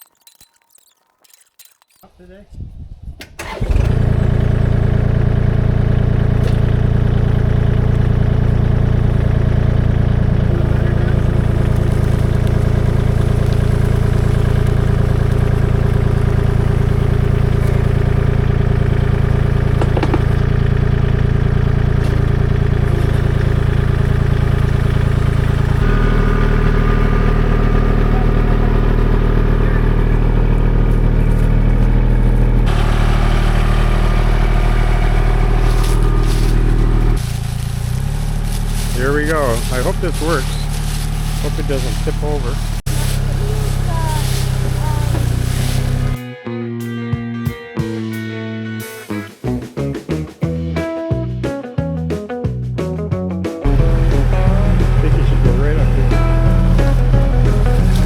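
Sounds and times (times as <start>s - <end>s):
tractor diesel engine running: 3.4s - 46.2s, 53.6s - 58.0s.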